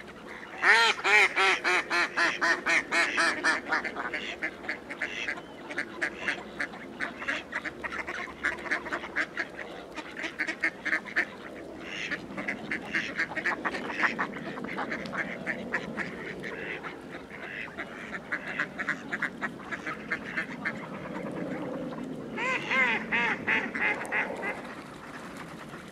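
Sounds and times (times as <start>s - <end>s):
ducks quacking: 0.0s - 25.9s.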